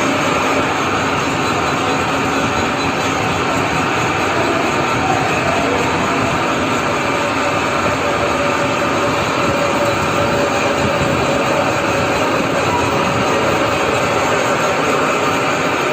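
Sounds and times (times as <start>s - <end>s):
lathe whirring: 0.0s - 15.9s.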